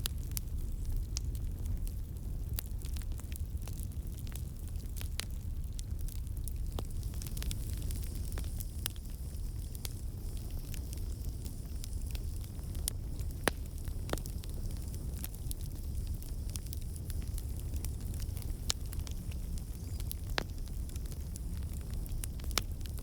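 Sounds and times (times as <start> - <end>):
burning wood crackling and popping: 0.0 - 23.0
rumble of flames: 0.0 - 23.0.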